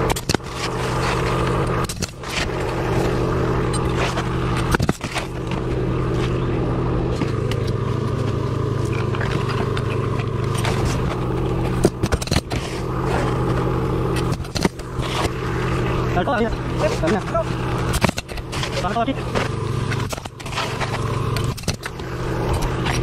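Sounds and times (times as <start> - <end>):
knocks and scrapes on shingles: 0.0 - 23.0
steady motor drone: 0.0 - 23.0.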